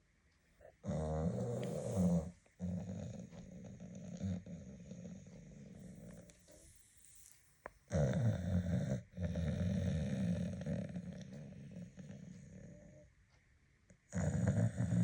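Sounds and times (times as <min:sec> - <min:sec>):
dog snoring: 0:00.8 - 0:13.1, 0:14.1 - 0:15.0.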